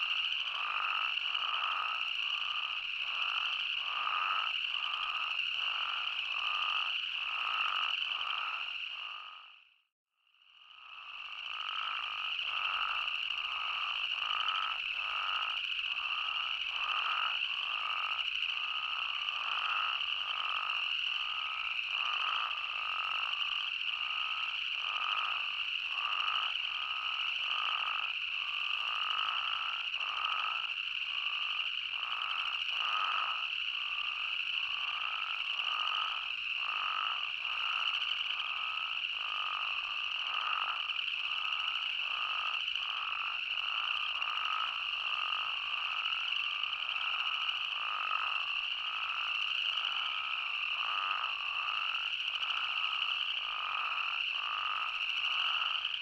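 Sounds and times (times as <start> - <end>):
toads calling: 0.0 - 9.5, 10.9 - 56.0.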